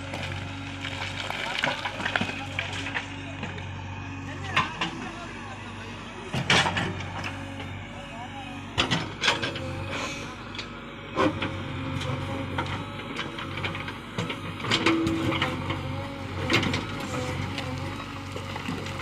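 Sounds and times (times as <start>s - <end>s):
heavy machine engine running: 0.0s - 19.0s.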